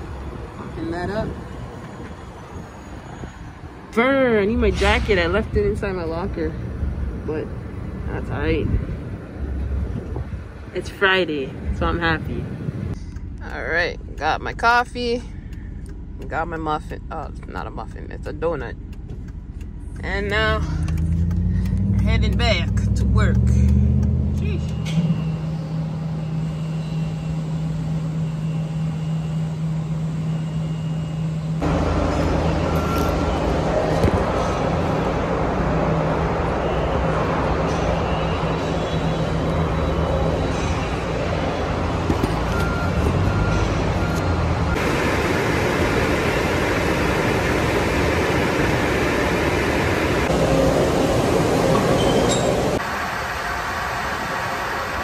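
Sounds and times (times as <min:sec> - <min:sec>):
industrial background noise: 0:00.0 - 0:55.0
low mechanical hum: 0:00.0 - 0:55.0.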